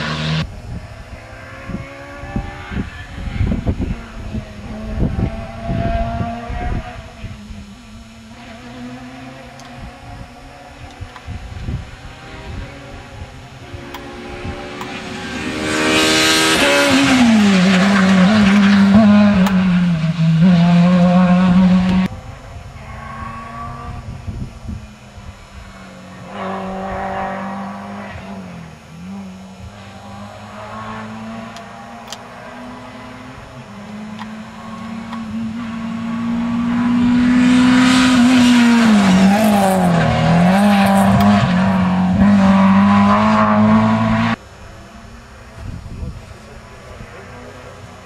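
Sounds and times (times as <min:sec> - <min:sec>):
rally car engine driven hard: 0:00.0 - 0:44.4.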